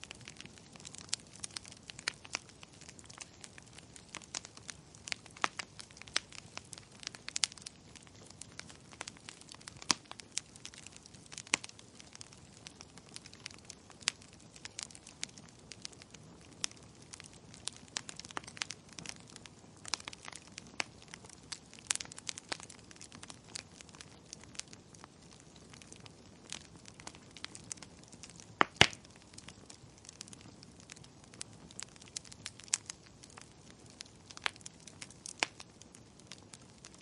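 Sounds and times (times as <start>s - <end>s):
wood fire crackling in fireplace: 0.0s - 37.0s.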